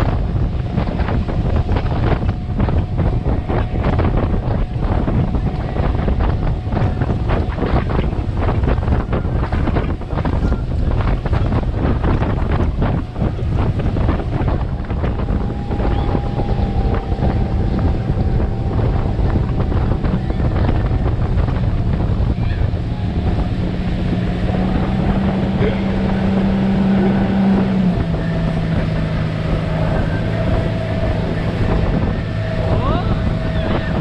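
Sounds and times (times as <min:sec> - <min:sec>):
motorboat engine drone: 0:00.0 - 0:34.0
wind buffeting microphone: 0:00.0 - 0:34.0.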